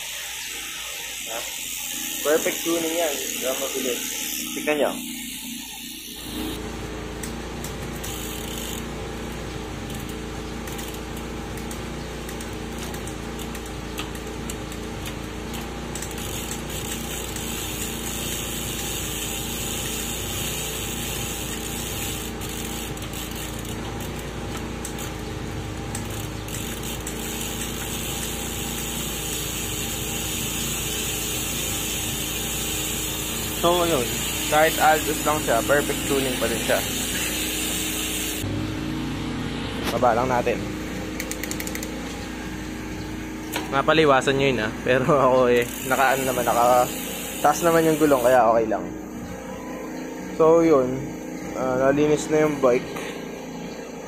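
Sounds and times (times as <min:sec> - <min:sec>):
bicycle chain whirring: 0:00.0 - 0:54.0.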